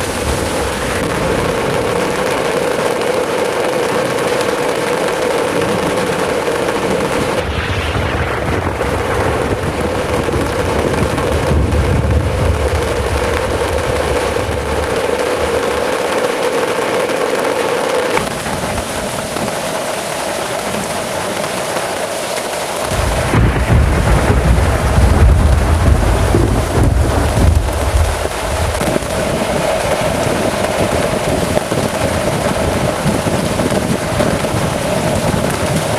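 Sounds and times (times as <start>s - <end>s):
heavy rain pouring: 0.0s - 35.9s
thunder rumbling: 0.0s - 35.9s.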